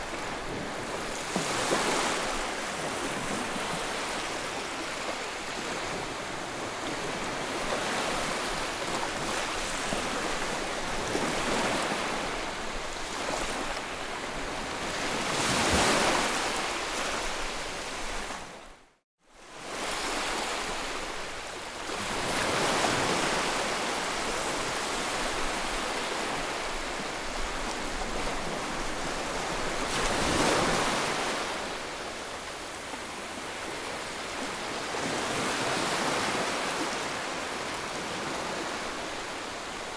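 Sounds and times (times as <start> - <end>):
ocean waves breaking: 0.0 - 18.6, 21.9 - 39.9.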